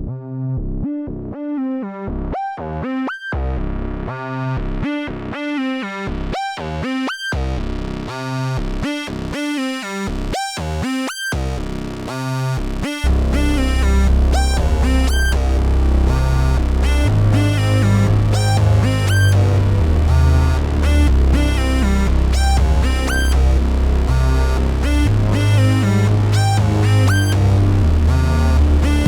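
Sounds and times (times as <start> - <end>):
deep bass layer: 0.0 - 5.4, 6.1 - 9.4, 11.4 - 29.0
analog synthesizer sequence: 0.0 - 29.0.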